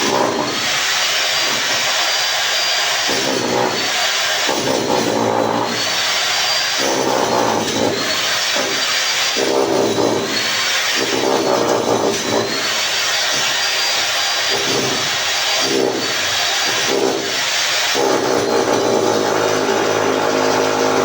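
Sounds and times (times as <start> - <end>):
power tool running: 0.0 - 21.0.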